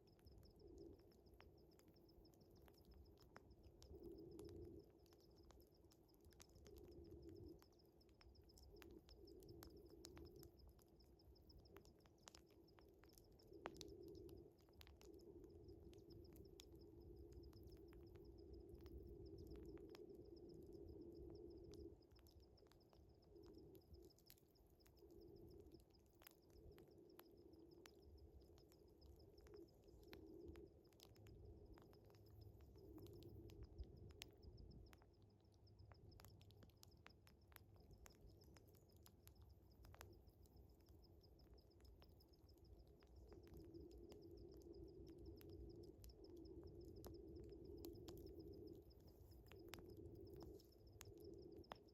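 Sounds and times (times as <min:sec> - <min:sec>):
cricket trill: 0:00.0 - 0:51.9
wood fire crackling and popping: 0:00.1 - 0:51.9.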